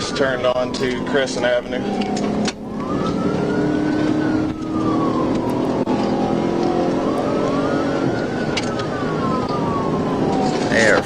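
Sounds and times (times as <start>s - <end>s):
car engine and road noise: 0.0s - 11.0s
police siren wailing: 0.0s - 11.0s.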